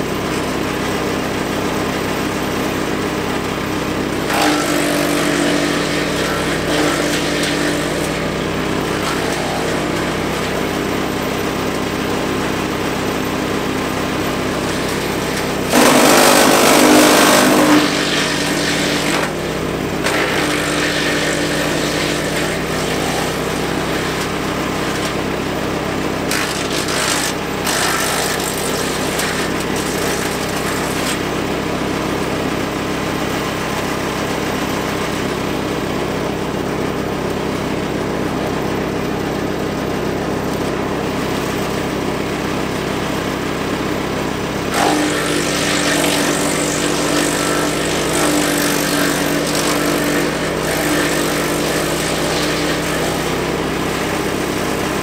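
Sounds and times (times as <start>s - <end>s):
branches grinding in chipper: 0.0s - 55.0s
wood chipper engine running: 0.0s - 55.0s.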